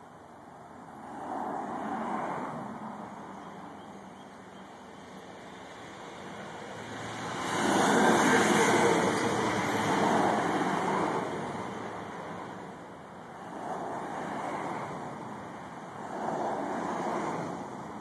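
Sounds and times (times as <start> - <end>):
vehicles passing on street: 0.0 - 18.0.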